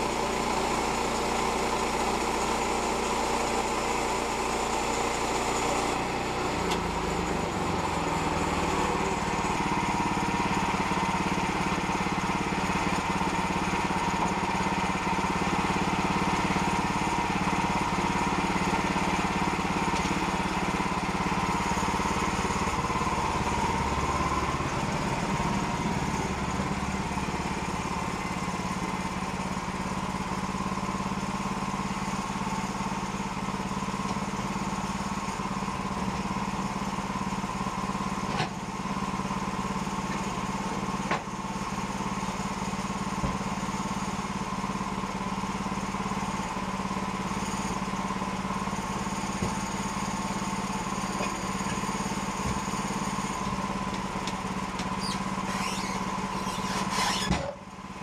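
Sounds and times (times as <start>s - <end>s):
small gasoline engine running: 0.0s - 58.0s.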